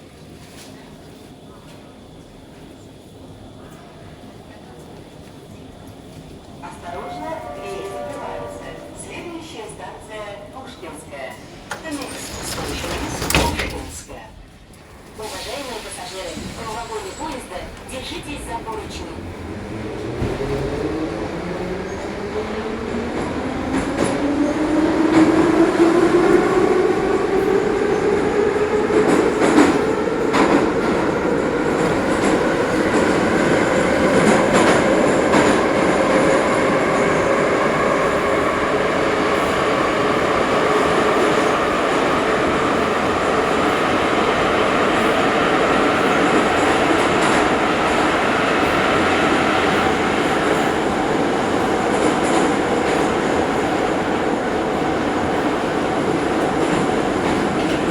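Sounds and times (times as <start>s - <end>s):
train running noise: 0.0s - 57.9s.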